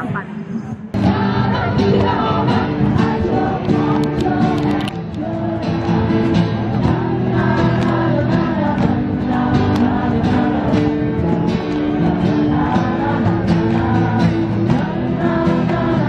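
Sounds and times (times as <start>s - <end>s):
strummed acoustic guitars: 0.9s - 16.0s
person singing into microphone: 1.0s - 16.0s.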